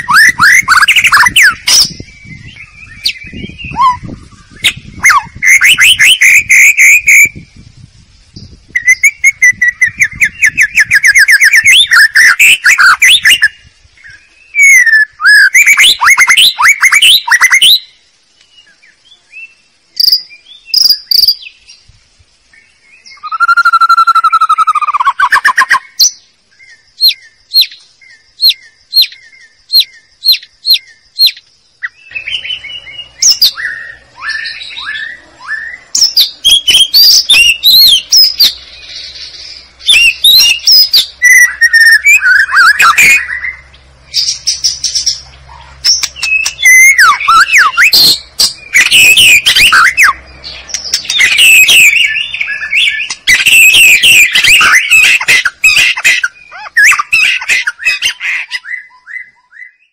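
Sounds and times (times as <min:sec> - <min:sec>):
songbird singing varied phrases: 0:00.0 - 0:59.9.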